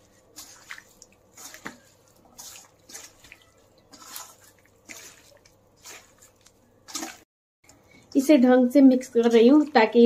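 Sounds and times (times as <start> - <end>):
hand mixing wet food: 0.0 - 10.0.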